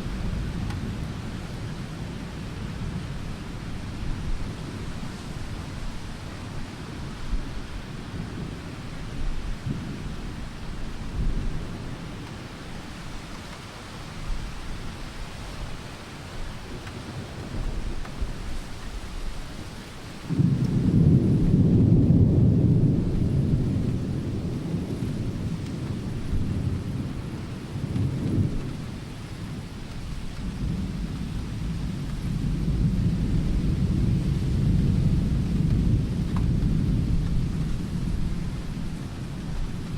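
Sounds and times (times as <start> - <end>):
thunder rumbling: 0.0 - 13.4, 16.4 - 39.9
rain hissing: 2.9 - 39.9.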